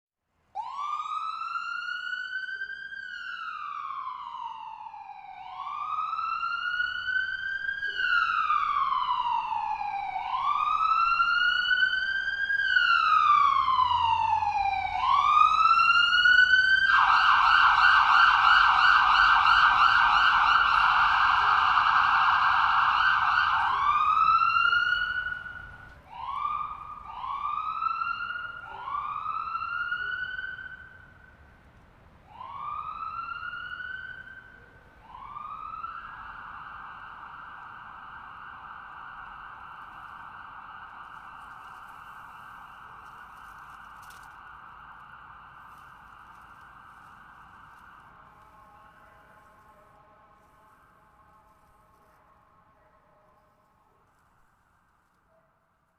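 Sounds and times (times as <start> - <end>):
ambulance siren: 0.5 - 55.1.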